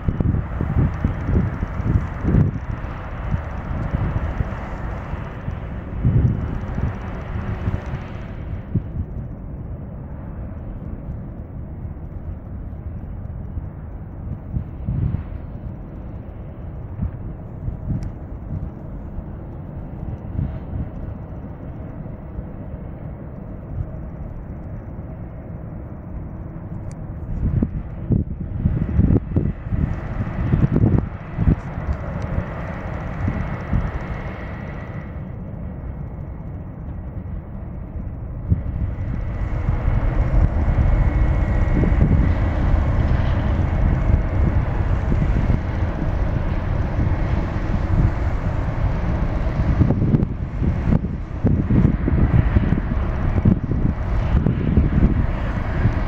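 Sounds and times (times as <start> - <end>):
faint steady hum: 0.0 - 56.0
jet engines idling: 0.0 - 56.0
wind buffeting microphone: 0.0 - 56.0.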